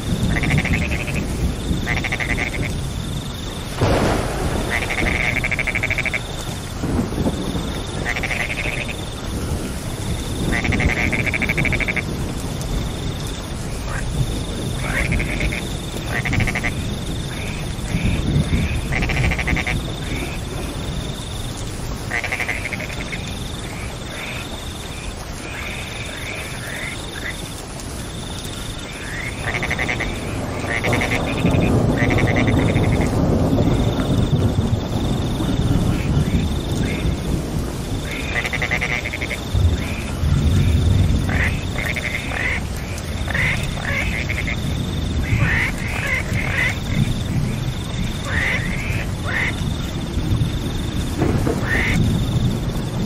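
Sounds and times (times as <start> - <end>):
frogs trilling: 0.0 - 53.0
steady rain: 0.0 - 53.0.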